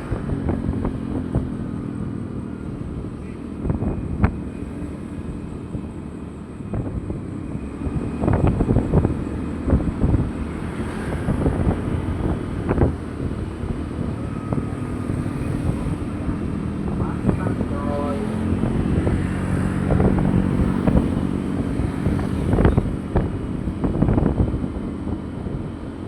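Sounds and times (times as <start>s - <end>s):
low vehicle rumble: 0.0s - 26.0s
wind buffeting microphone: 0.0s - 26.0s.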